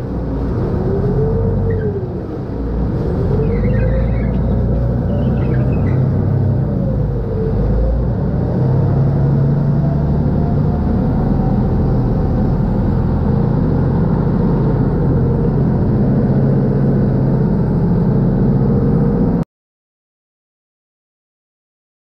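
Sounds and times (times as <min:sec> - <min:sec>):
boat engine running: 0:00.0 - 0:19.4.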